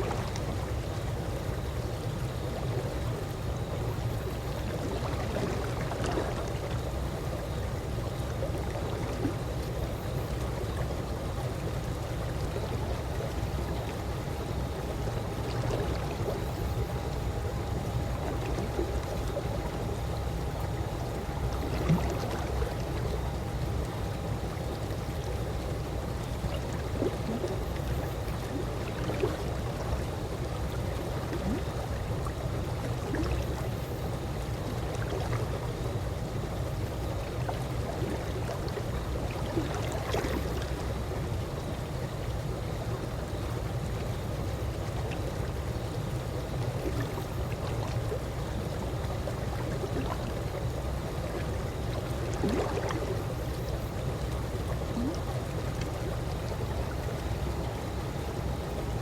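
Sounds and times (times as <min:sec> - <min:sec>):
small splashes and drips: 0:04.2 - 0:42.8, 0:43.9 - 0:58.2.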